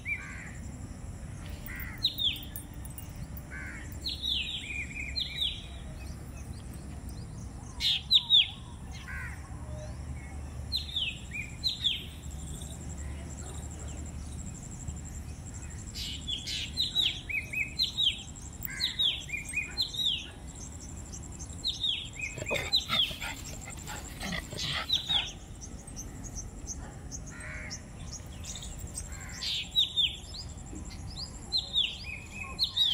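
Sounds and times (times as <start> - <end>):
birds calling: 1.4 - 9.4, 10.7 - 32.9.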